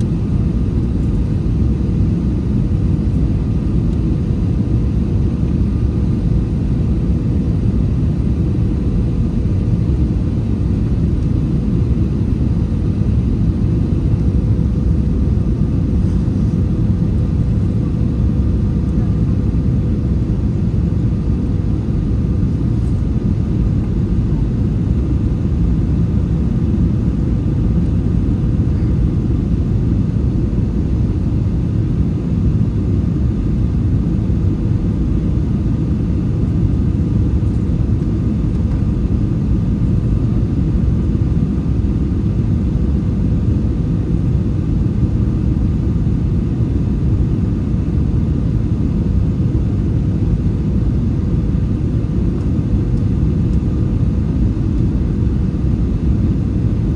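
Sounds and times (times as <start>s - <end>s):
airplane engine and airflow noise: 0.0s - 56.9s
faint steady hum: 0.0s - 56.9s.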